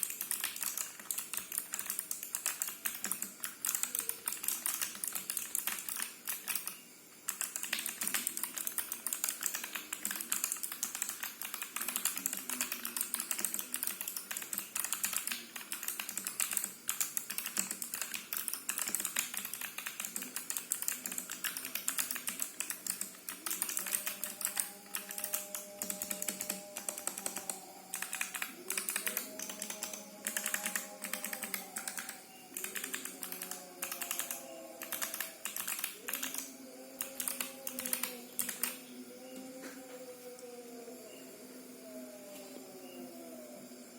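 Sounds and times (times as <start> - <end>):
fast typing on clicky keyboard: 0.0 - 38.8
faint music: 0.0 - 43.9.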